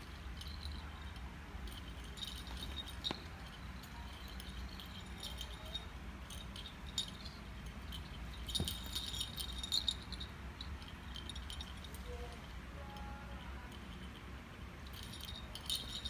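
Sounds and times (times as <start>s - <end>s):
collar bell jingling: 0.0s - 16.0s.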